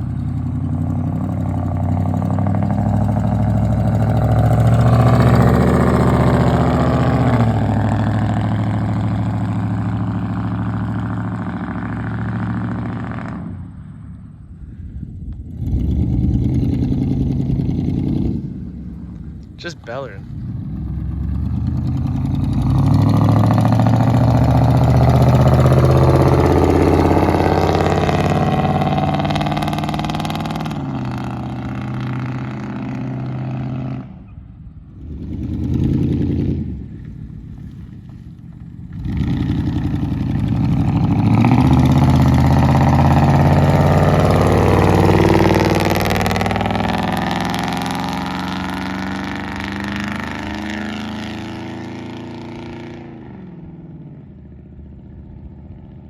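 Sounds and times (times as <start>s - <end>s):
loud truck engine driving by: 0.0s - 34.3s, 38.9s - 55.8s.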